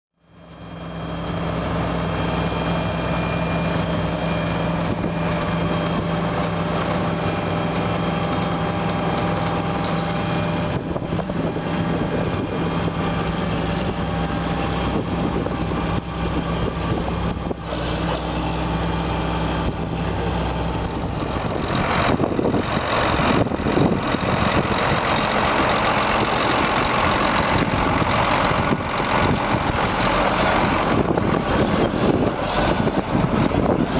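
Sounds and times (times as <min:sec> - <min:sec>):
diesel tractor engine idling: 0:00.2 - 0:33.9.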